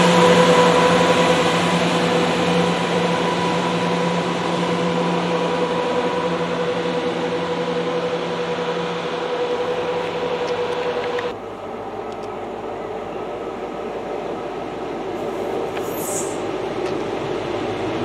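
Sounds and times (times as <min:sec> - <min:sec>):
train engines humming and whining: 0:00.0 - 0:18.0.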